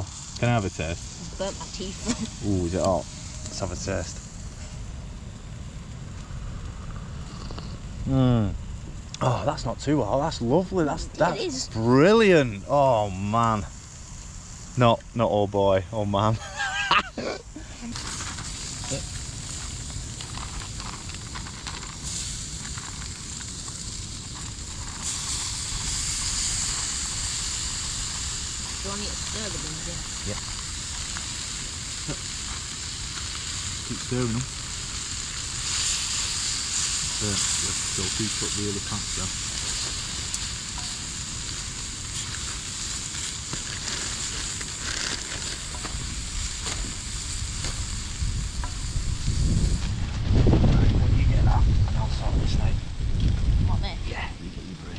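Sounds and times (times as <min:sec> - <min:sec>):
food hissing over fire: 0:00.0 - 0:50.8
wood fire crackles: 0:00.0 - 0:54.9.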